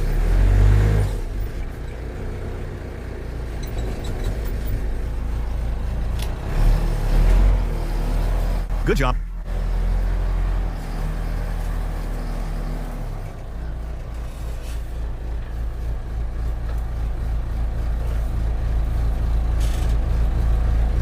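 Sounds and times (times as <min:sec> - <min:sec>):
backhoe diesel engine working: 0:00.0 - 0:21.0.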